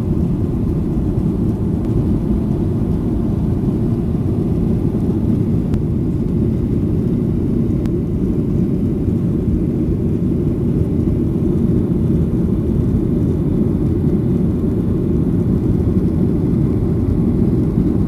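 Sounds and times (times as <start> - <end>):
airliner engines rumbling: 0.0 - 18.0
rushing air in cabin: 0.0 - 18.0.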